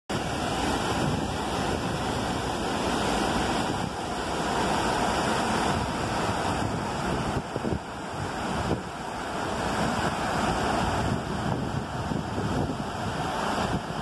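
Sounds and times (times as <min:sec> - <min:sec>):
water cascading over a weir: 0:00.1 - 0:14.0
wind buffeting microphone: 0:00.1 - 0:14.0.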